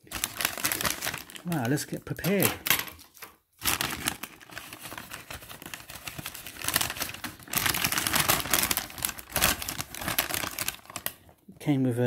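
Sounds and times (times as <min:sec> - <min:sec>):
paper bag rustling: 0:00.0 - 0:11.1.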